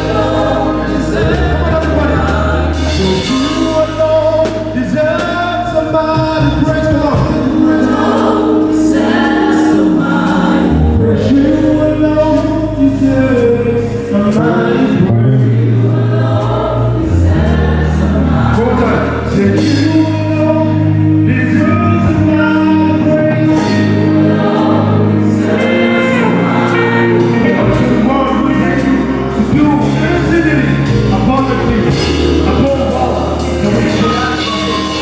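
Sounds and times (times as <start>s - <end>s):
drums: 0.0s - 22.6s, 23.5s - 35.0s
bass line: 0.0s - 35.0s
gospel choir singing: 0.0s - 35.0s.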